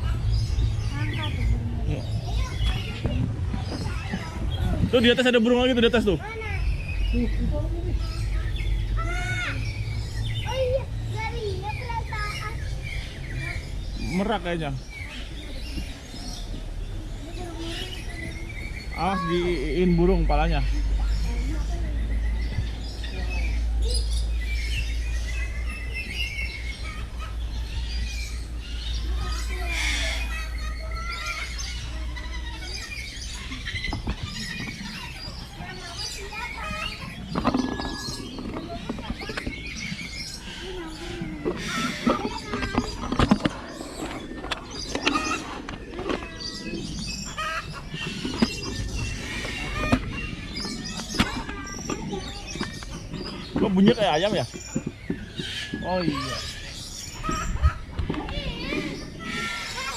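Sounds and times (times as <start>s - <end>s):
steady low rumble: 0.0s - 19.0s, 19.7s - 56.0s
small birds chirping: 0.0s - 59.9s.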